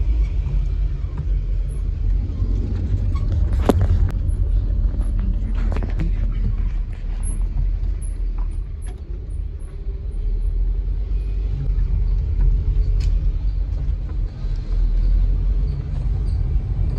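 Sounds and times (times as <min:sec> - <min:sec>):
car interior engine and road rumble: 0:00.0 - 0:16.9.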